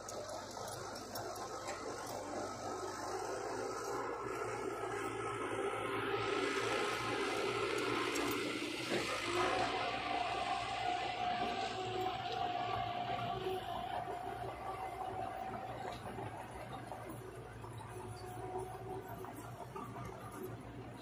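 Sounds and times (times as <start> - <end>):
heavy machinery diesel engines: 0.0 - 21.0.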